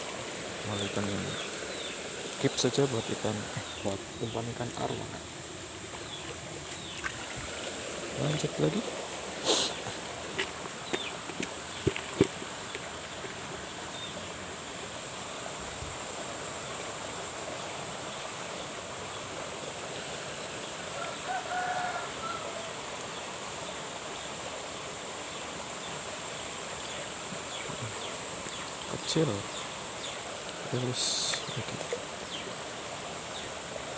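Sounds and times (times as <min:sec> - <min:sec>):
steady hiss: 0:00.0 - 0:33.9.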